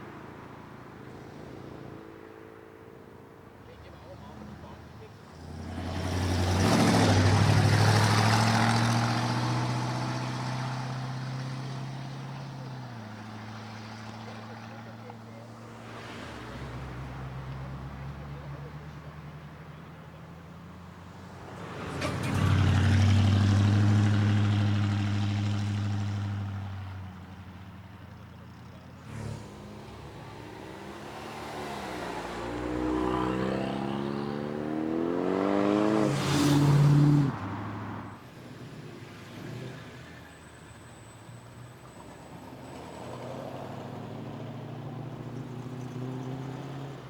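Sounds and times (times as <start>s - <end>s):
car engines pulling away: 0.0s - 47.0s.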